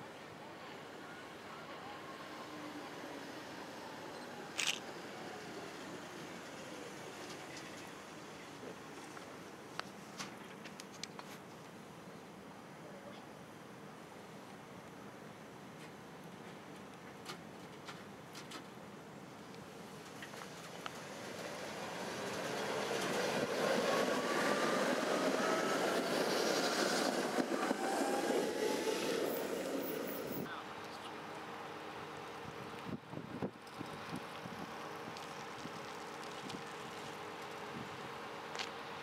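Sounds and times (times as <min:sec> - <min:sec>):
tram rolling along track: 0:00.0 - 0:11.1, 0:14.6 - 0:39.0.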